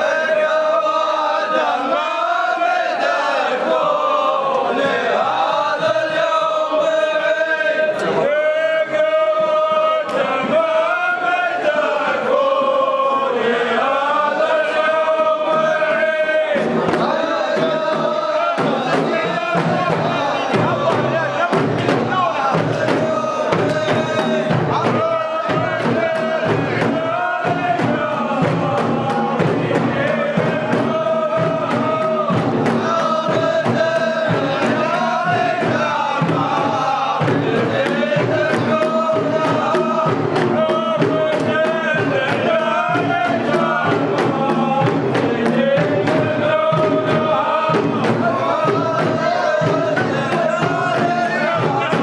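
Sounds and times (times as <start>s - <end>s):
men chanting in unison: 0.0s - 52.0s
quick percussive beat: 0.0s - 52.0s.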